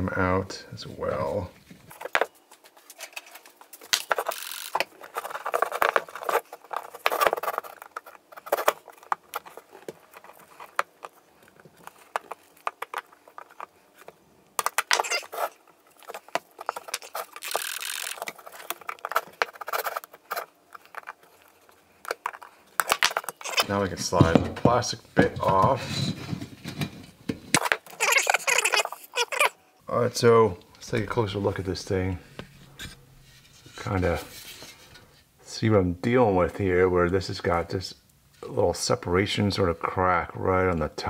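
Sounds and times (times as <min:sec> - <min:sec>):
rubbing and scraping: 0:00.9 - 0:29.5, 0:30.8 - 0:35.3.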